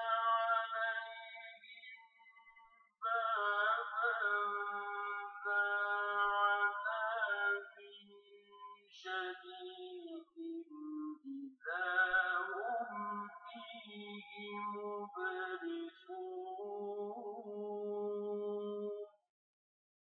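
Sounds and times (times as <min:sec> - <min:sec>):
solo voice chanting recitation: 0:00.0 - 0:02.2, 0:03.0 - 0:19.1.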